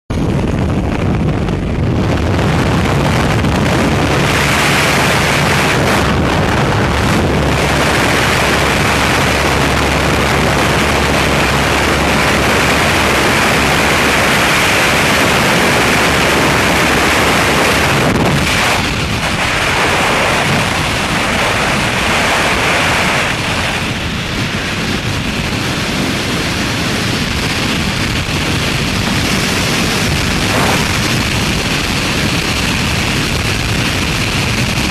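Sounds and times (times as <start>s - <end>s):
propeller engines humming: 0.1s - 34.9s
wind rushing: 0.1s - 34.9s.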